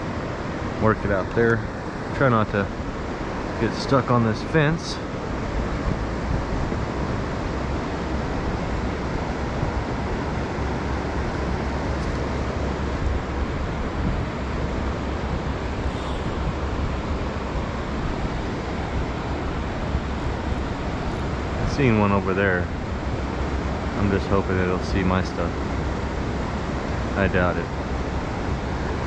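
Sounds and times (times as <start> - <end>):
river current rushing: 0.0 - 29.0.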